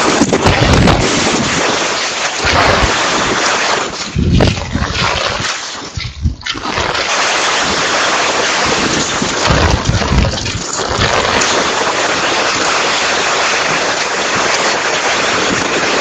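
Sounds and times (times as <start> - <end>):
strong wind gusting over microphone: 0.0 - 16.0.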